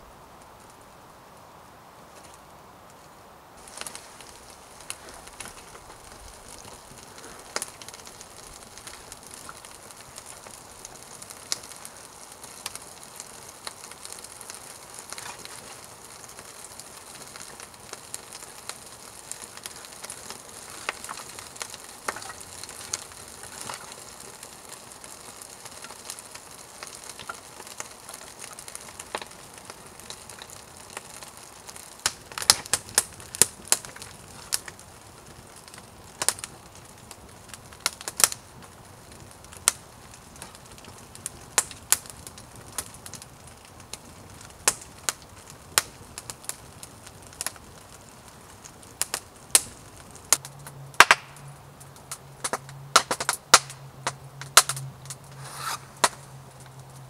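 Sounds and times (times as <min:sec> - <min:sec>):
kindling fire crackling: 0:00.0 - 0:57.0
sharp snaps of fire: 0:00.3 - 0:01.4, 0:02.0 - 0:57.0.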